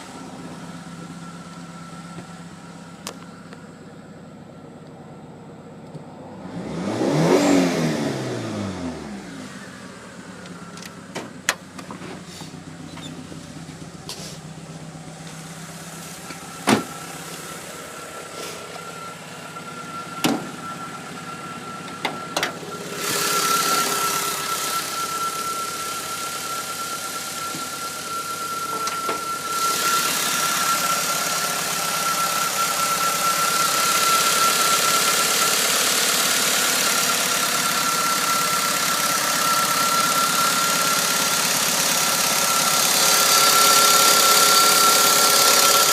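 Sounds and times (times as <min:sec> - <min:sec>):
engine running with high whine: 0:00.0 - 0:45.9.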